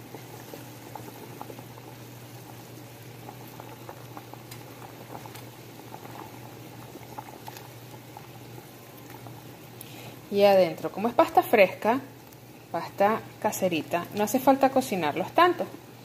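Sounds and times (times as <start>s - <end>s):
water boiling in a pot: 0.0s - 16.0s.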